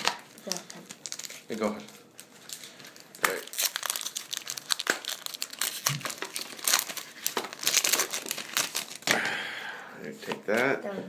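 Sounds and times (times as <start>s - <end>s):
foil wrapper crinkling: 0.0s - 9.3s.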